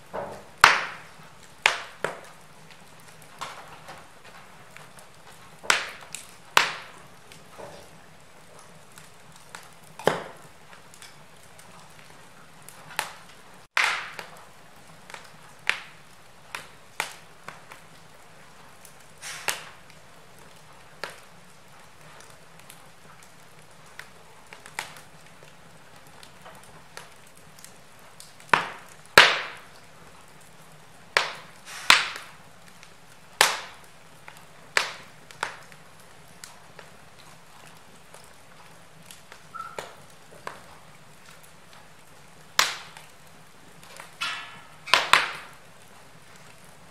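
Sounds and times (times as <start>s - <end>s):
faint steady hiss: 0.0s - 46.9s
wood fire crackling: 0.0s - 46.9s.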